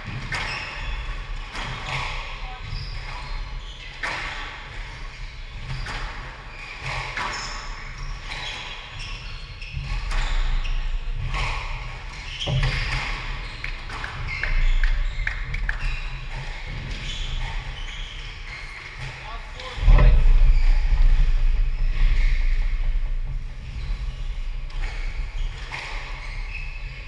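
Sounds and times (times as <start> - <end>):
shoes squeaking on wooden floor: 0.4 - 27.0.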